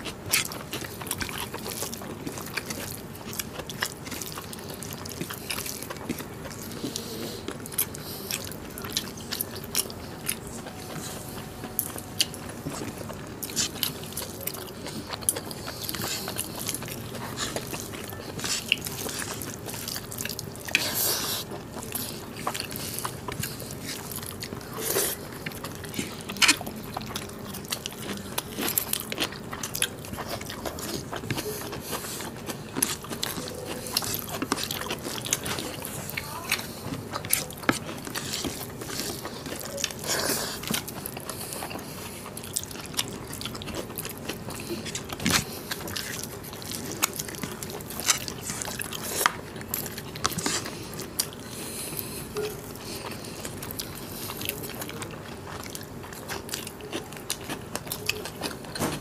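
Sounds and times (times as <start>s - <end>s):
chewing with wet mouth smacks: 0.0s - 59.0s.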